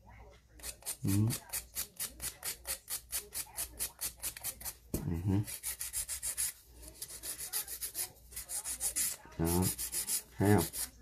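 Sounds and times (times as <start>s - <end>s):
nail file rasping on fingernail: 0.6s - 11.0s.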